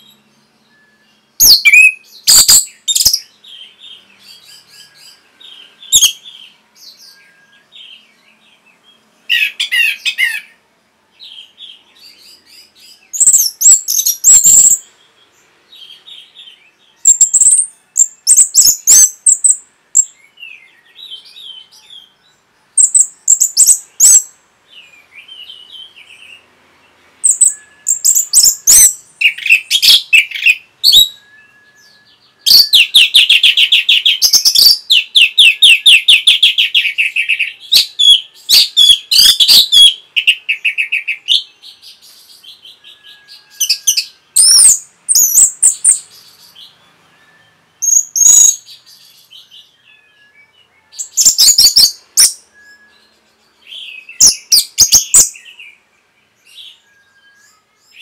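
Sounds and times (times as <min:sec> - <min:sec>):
thrush singing whistled notes: 0:00.0 - 0:10.6, 0:11.2 - 0:58.0.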